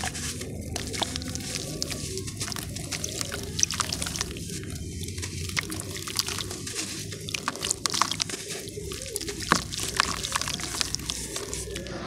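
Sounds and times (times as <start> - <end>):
crisp crackles: 0.0 - 12.0
water dripping: 0.0 - 12.0
wet squishing: 0.0 - 12.0.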